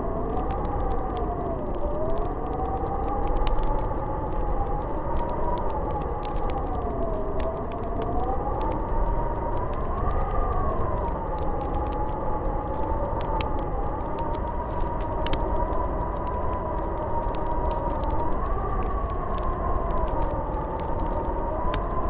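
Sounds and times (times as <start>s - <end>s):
wind howling and whistling: 0.0s - 22.0s
light ticks: 0.2s - 8.9s, 9.6s - 22.0s.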